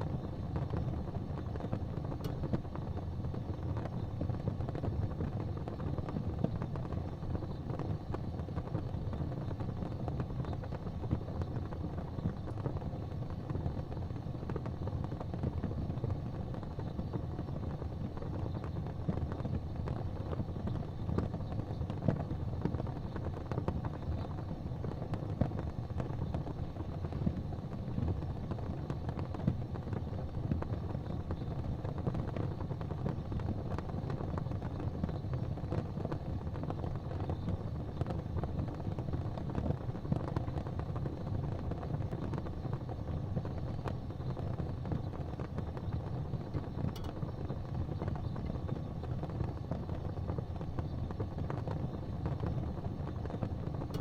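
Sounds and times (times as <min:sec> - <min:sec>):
fire crackles: 0:00.0 - 0:54.0
fire rumbling in fireplace: 0:00.0 - 0:54.0.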